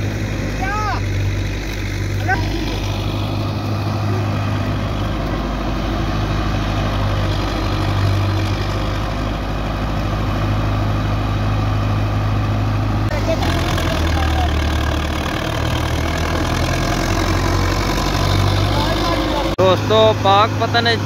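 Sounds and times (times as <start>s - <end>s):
tractor diesel engine and thresher din: 0.0s - 21.0s.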